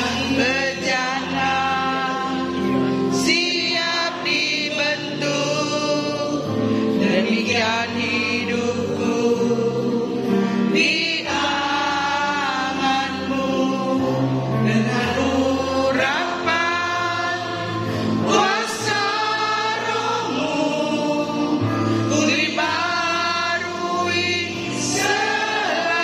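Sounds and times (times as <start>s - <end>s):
choir singing worship song: 0.0s - 26.0s.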